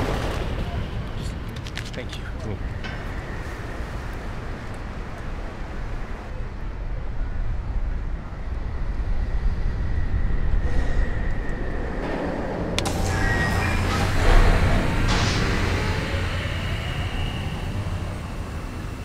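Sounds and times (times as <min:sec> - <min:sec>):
low mechanical rumble: 0:02.4 - 0:19.0.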